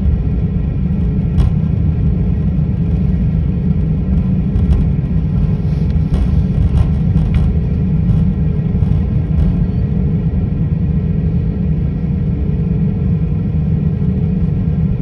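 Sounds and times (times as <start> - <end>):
low rumble of jet engines: 0.0 - 15.0
steady cabin hum: 0.0 - 15.0.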